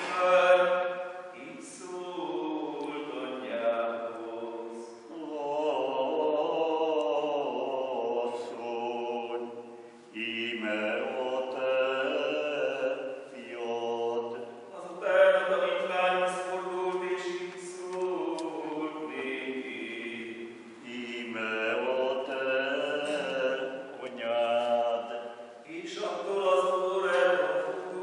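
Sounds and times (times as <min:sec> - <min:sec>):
mixed choir chanting: 0:00.0 - 0:28.0.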